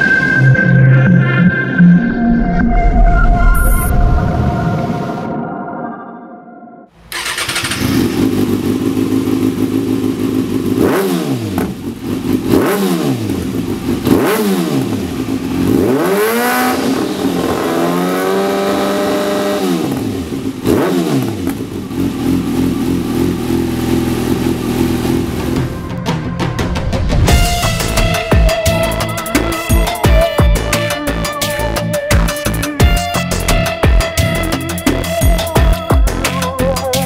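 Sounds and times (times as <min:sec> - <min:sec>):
motorcycle engine idling and revving: 0:07.0 - 0:37.0.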